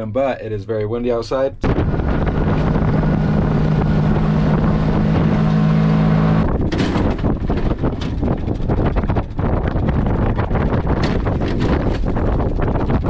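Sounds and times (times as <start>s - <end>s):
tractor engine running: 1.6s - 13.0s
wind buffeting microphone: 1.6s - 13.0s.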